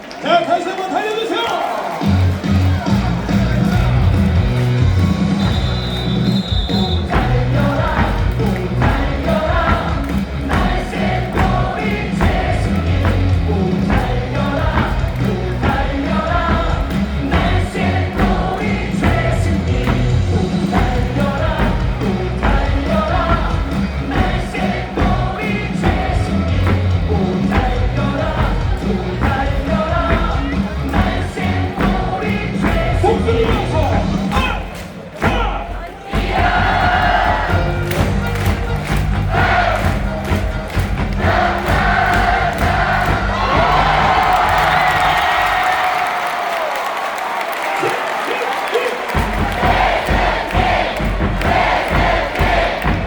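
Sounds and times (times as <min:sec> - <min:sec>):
amplified cheer music with beat: 0:00.0 - 0:53.0
crowd singing in unison: 0:03.4 - 0:46.2, 0:48.4 - 0:53.0.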